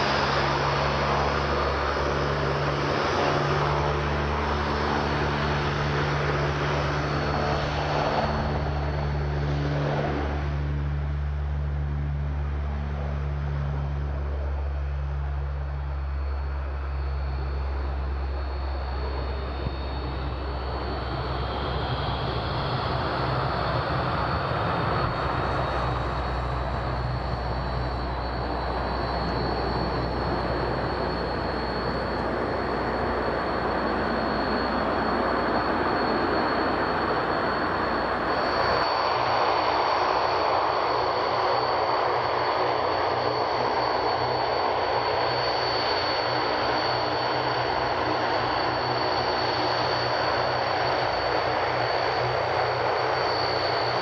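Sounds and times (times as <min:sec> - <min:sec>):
steady high whine: 0:00.0 - 0:54.0
turboprop aircraft engines: 0:00.0 - 0:54.0.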